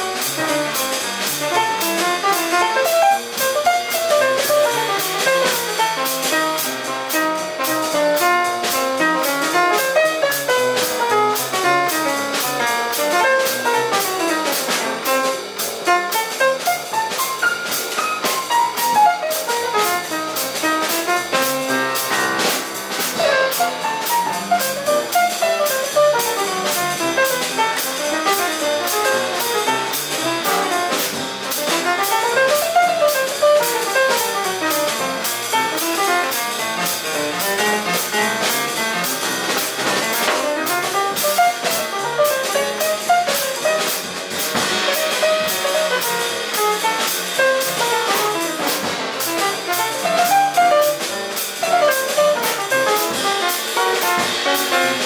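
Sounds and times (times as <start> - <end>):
double bass: 0.0 - 55.0
drum kit cymbal time: 0.0 - 55.0.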